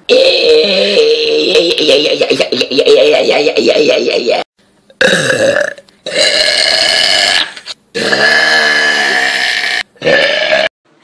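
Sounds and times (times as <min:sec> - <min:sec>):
person burping loudly: 0:00.1 - 0:10.7.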